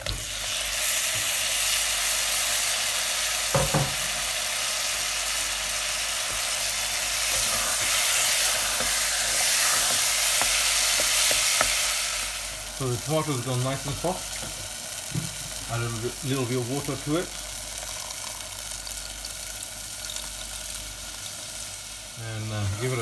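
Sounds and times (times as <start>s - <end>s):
tomatoes sizzling in hot oil: 0.0s - 23.0s.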